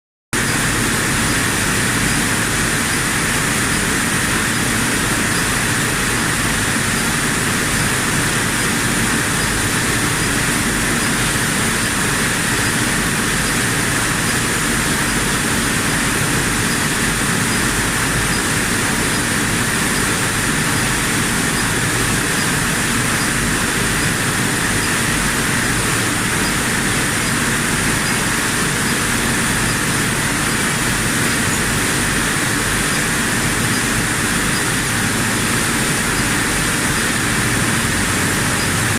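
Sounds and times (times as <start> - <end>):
packing machine running: 0.4 - 38.9.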